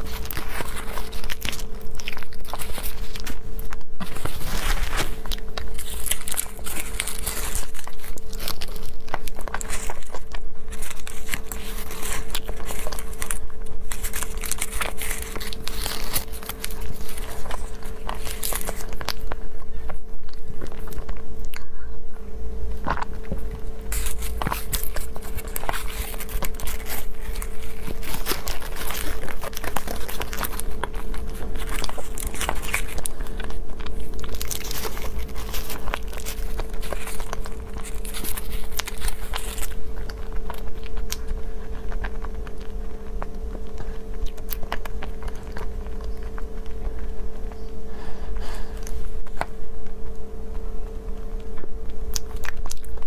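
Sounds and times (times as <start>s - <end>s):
paper liner crinkling and tearing: 0.0s - 21.6s, 22.8s - 47.7s
biting and chewing: 0.0s - 21.8s, 22.4s - 53.0s
faint steady hum: 0.0s - 53.0s.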